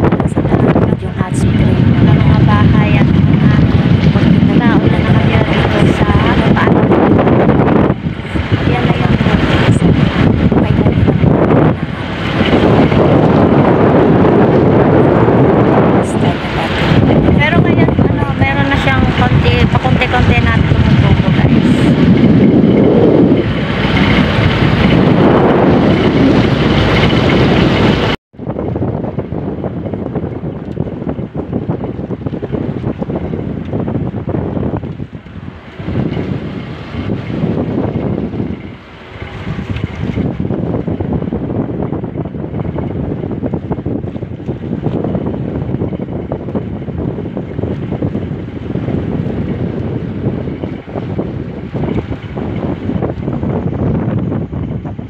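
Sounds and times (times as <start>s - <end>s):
water washing: 0.0s - 55.0s
wind buffeting microphone: 0.0s - 55.0s.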